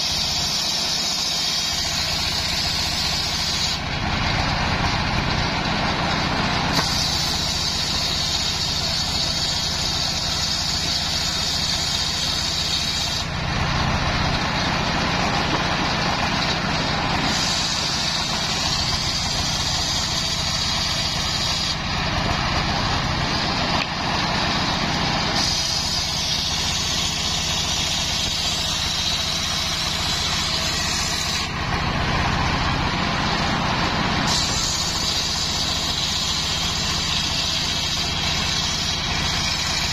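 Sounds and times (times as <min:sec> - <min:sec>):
saw blade hissing in wood: 0:00.0 - 0:04.4, 0:06.1 - 0:31.6, 0:32.9 - 0:39.9
stationary engine running: 0:00.0 - 0:39.9.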